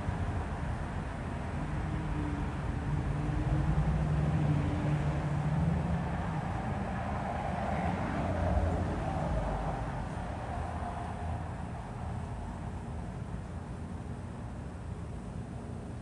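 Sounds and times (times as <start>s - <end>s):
ceiling fan air rushing: 0.0s - 16.0s.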